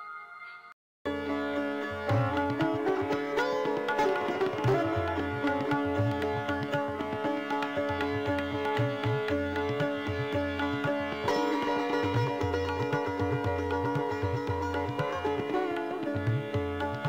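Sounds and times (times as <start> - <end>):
plucked strings: 1.1 - 17.0.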